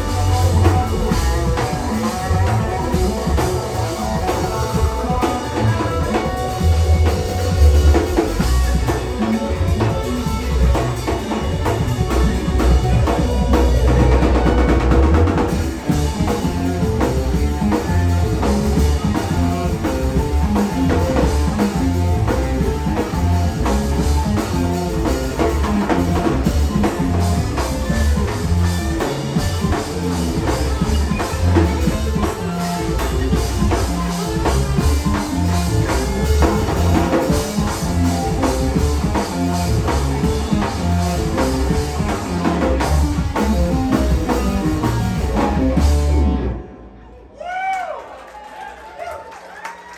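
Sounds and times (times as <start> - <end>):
drum kit: 0.0 - 46.8
electric guitar: 0.0 - 47.3
bass guitar: 0.0 - 47.5
keyboards: 0.0 - 49.9.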